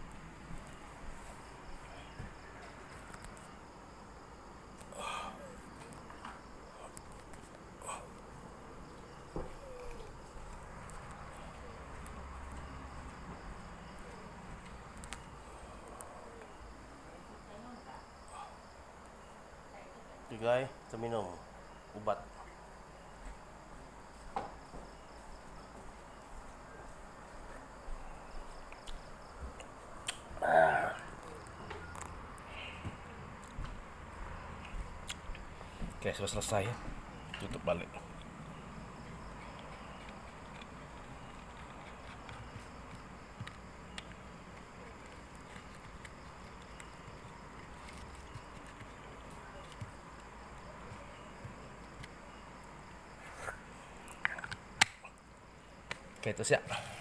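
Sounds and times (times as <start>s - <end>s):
insect chirring: 0.0s - 23.3s, 27.2s - 57.0s
low steady background noise: 0.0s - 57.0s.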